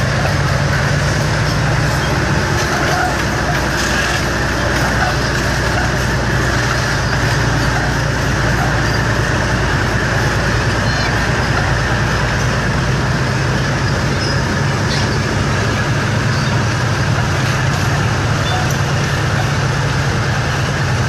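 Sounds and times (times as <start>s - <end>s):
steel tracks clattering: 0.0s - 21.0s
tank diesel engine running: 0.0s - 21.0s.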